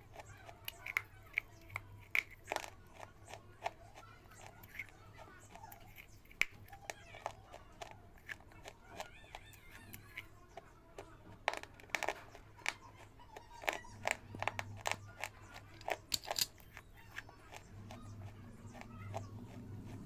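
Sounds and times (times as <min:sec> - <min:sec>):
crunchy food being chewed: 0:00.0 - 0:20.0.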